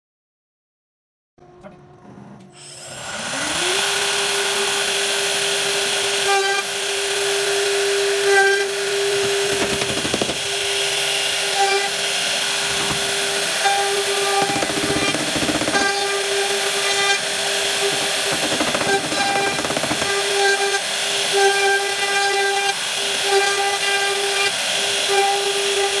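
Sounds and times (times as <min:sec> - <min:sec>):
power tool motor whining: 0:02.5 - 0:26.0.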